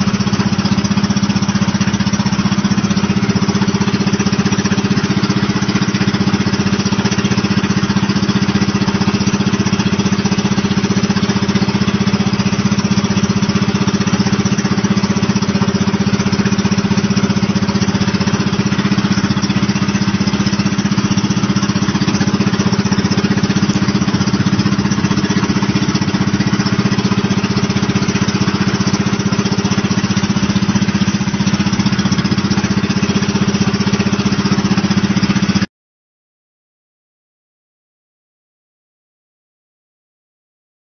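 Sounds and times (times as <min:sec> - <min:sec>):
boat engine droning: 0:00.0 - 0:35.7.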